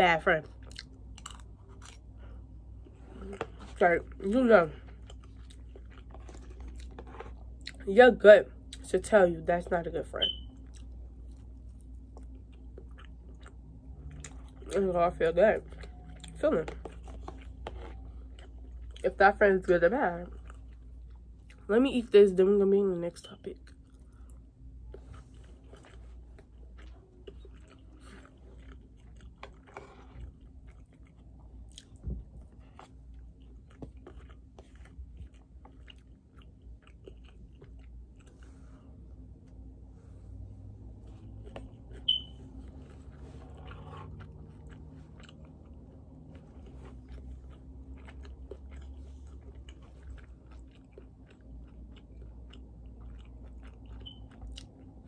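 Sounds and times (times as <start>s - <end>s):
person chewing rice: 0.6s - 4.1s, 4.8s - 7.8s, 10.6s - 14.8s, 15.6s - 19.0s, 20.2s - 21.6s, 23.6s - 38.7s, 41.0s - 55.0s.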